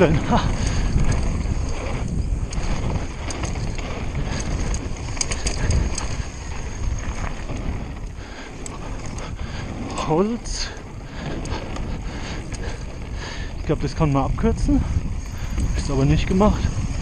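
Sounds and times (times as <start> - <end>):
bike rattles and clicks: 0.0 - 17.0
bike tyre and trail noise: 0.0 - 17.0
wind on microphone: 0.0 - 17.0.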